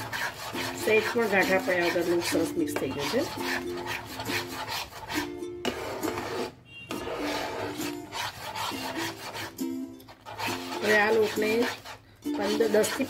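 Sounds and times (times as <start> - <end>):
background music: 0.0 - 11.6
spatula scraping dough in pan: 0.0 - 13.0.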